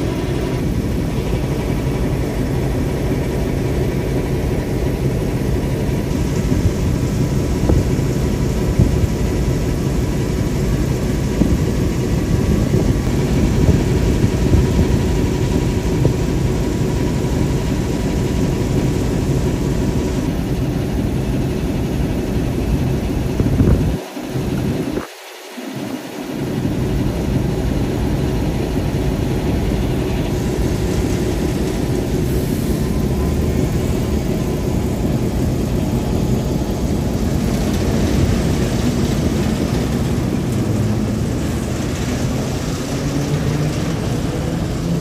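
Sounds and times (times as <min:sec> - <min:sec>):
diesel engine idling: 0:00.0 - 0:24.9, 0:25.8 - 0:45.0.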